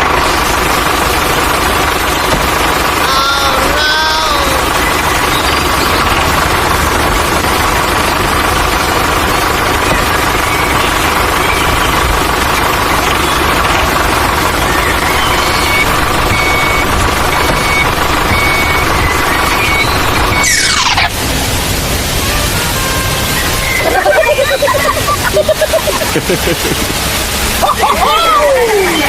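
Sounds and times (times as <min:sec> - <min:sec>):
cartoon engine running: 0:00.0 - 0:29.0.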